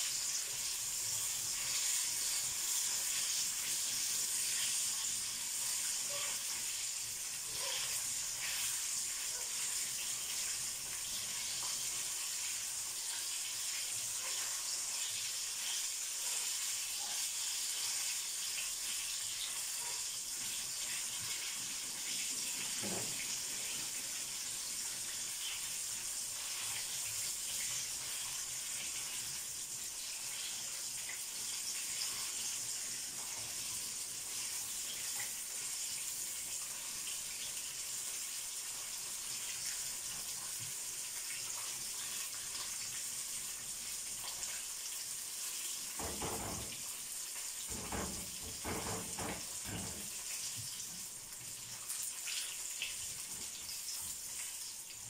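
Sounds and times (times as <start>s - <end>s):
chicken deep-frying in oil: 0.0s - 55.0s.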